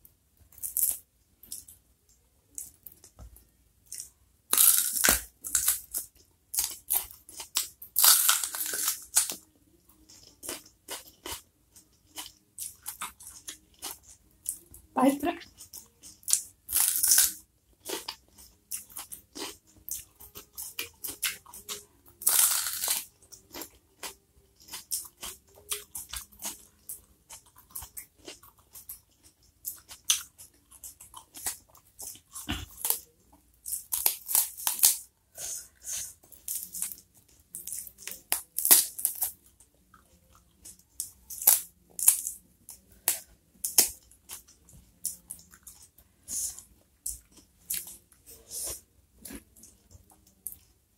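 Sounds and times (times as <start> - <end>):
chewing crunchy vegetable: 3.9 - 14.7, 15.4 - 50.7.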